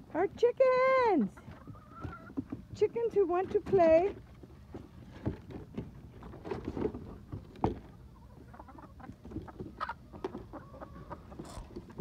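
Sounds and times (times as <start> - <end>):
hens scuffling against wire fence: 0.0 - 12.0.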